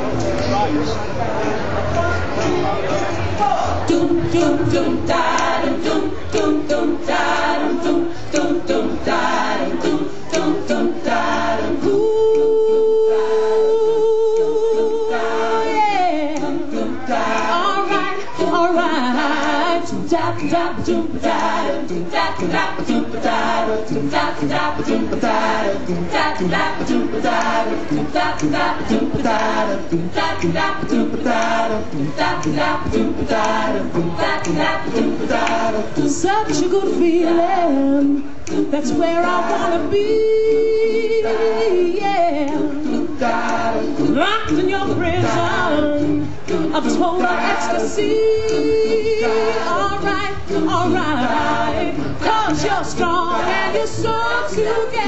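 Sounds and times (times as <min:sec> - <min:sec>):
steady beat: 0:03.3 - 0:12.8, 0:14.1 - 0:55.0
choir singing: 0:03.6 - 0:55.0.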